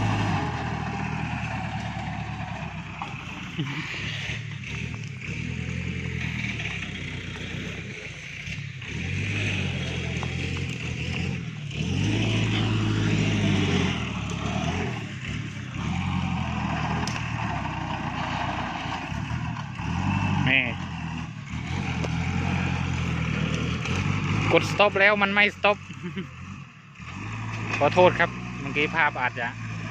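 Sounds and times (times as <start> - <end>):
tractor diesel engine revving: 0.0 - 29.9.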